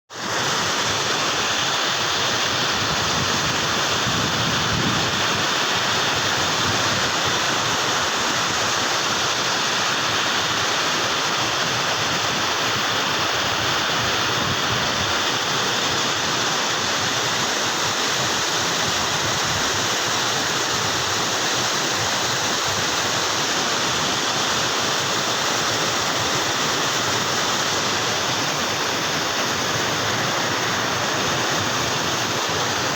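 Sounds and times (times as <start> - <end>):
river water rushing over rocks: 0.1 - 32.9.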